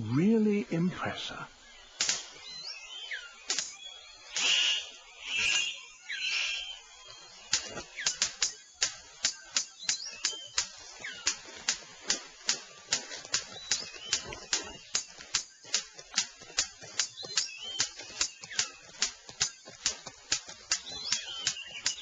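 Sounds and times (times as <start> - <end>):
bird chirping calls: 0.0 - 22.0
bird sharp clicks: 1.9 - 22.0.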